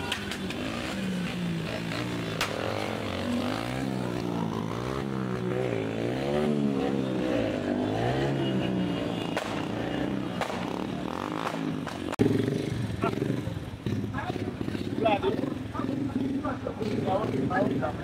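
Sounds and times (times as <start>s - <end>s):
motorcycle engine revving: 0.4s - 18.0s.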